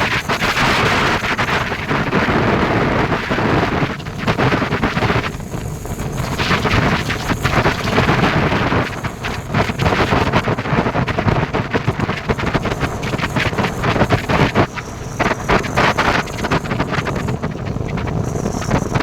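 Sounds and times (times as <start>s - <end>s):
road noise: 0.0s - 19.0s
wind buffeting microphone: 0.0s - 19.0s
motorcycle running: 0.1s - 19.0s.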